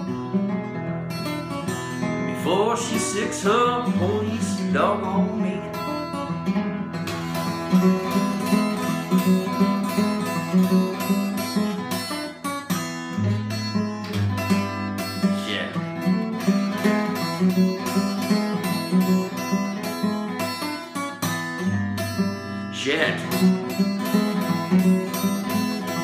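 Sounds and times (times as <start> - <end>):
fingerpicked acoustic guitar: 0.0 - 26.0.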